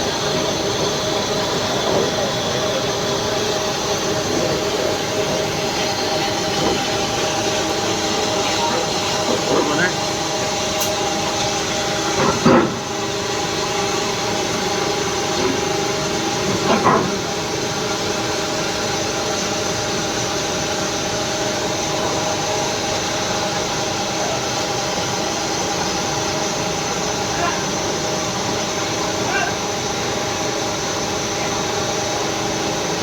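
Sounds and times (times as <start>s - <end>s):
induction furnace humming: 0.0s - 33.0s.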